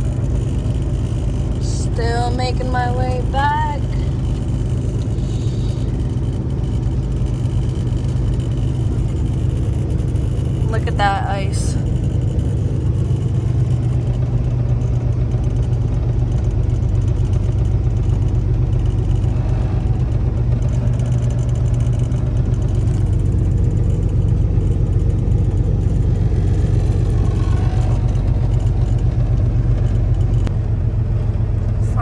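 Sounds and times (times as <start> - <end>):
diesel truck engine drone: 0.0 - 32.0.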